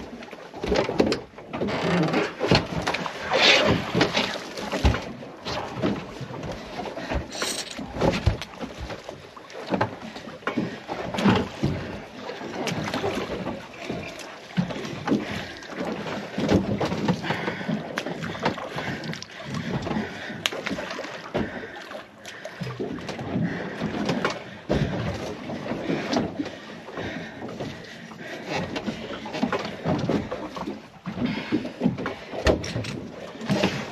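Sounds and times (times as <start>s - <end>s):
knocks and thumps on boat: 0.0s - 33.9s
water slapping against hull: 0.0s - 33.9s.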